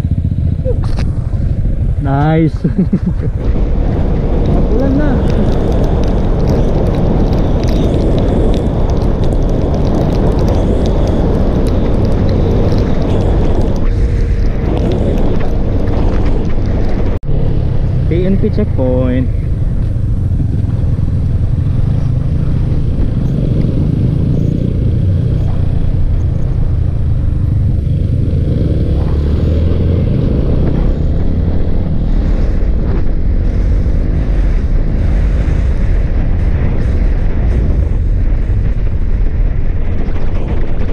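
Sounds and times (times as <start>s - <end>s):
motorcycle engine accelerating: 0.0s - 40.9s
wind rumble on microphone: 0.0s - 40.9s.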